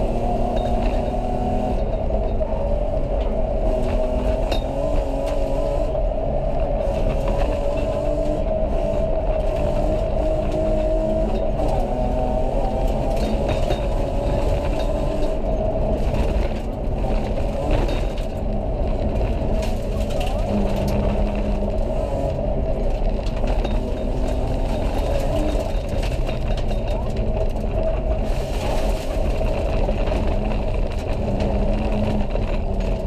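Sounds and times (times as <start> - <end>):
car engine at high revs: 0.0 - 33.0
road and tyre noise: 0.0 - 33.0.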